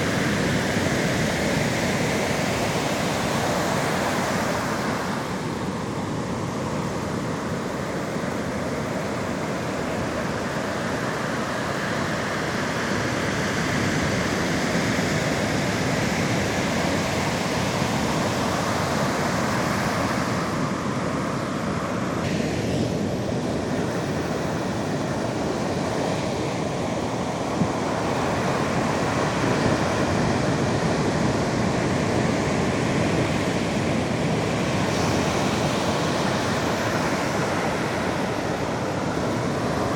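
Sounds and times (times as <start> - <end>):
sea surf washing on shore: 0.0 - 39.9.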